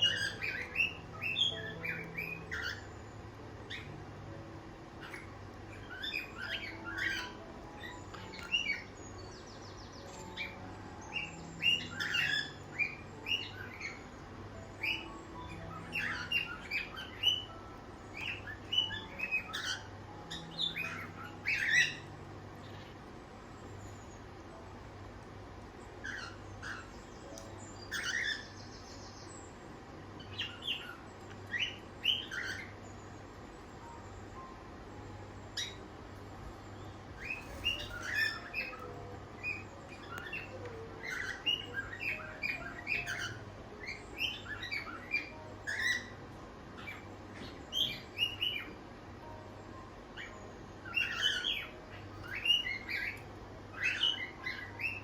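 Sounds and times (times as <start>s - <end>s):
cockatiels chirping: 0.0s - 4.4s, 5.0s - 9.4s, 10.0s - 23.0s, 26.0s - 28.9s, 30.2s - 32.9s, 35.5s - 35.9s, 37.2s - 48.8s, 50.2s - 55.0s
faint low hum: 0.0s - 55.0s.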